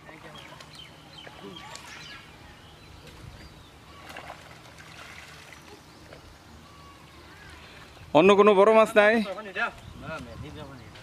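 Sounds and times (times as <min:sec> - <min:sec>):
pond water splashing and trickling: 0:00.0 - 0:09.8.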